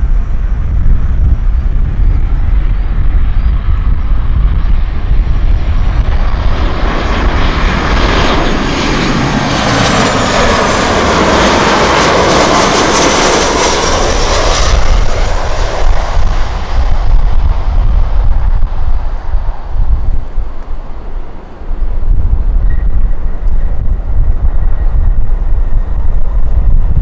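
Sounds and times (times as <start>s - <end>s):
jet airliner passing overhead: 0.0s - 27.0s
wind rumbling on microphone: 0.0s - 27.0s.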